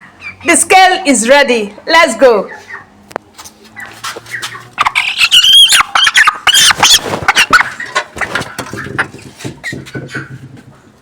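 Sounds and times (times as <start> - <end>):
chickens squawking: 0.0 - 0.8, 2.1 - 3.0, 3.7 - 11.0.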